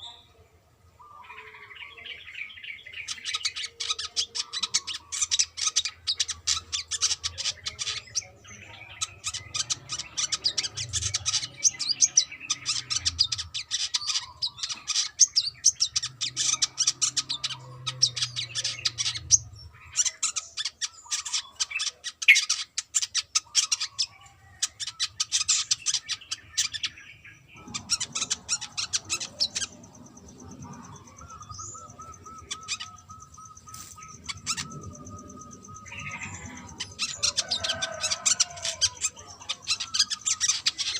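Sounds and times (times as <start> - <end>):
bird chirping trills: 0.0 - 40.9.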